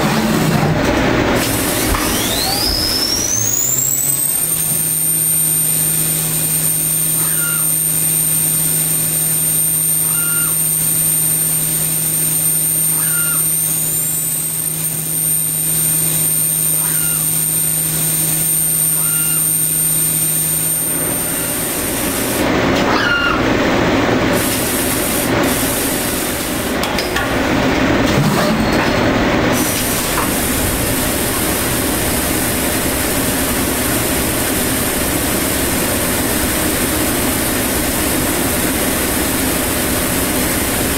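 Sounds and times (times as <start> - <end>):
machine hum with high whine: 0.0 - 40.9.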